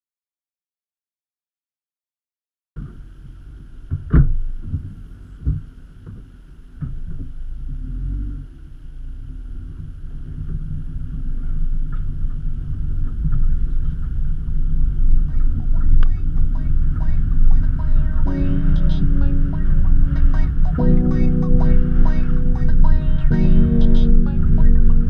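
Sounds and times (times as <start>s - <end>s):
vehicle rumbling on dirt track: 2.8s - 25.0s.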